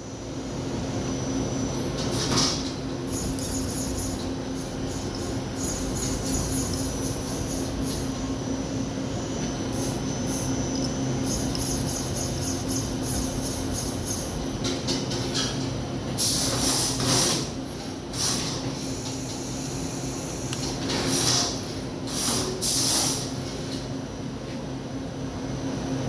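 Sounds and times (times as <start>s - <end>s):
lathe mechanical hum: 0.0s - 26.0s.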